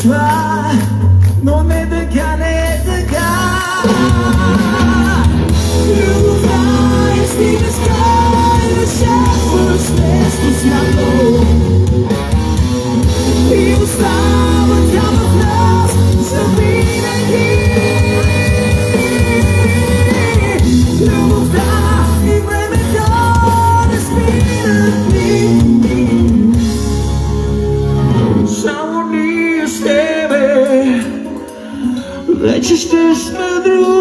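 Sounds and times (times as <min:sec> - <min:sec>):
man singing: 0:00.0 - 0:11.9, 0:13.0 - 0:26.9, 0:28.4 - 0:34.0
bass guitar: 0:00.0 - 0:34.0
drums: 0:00.0 - 0:34.0
electric guitar: 0:00.0 - 0:34.0.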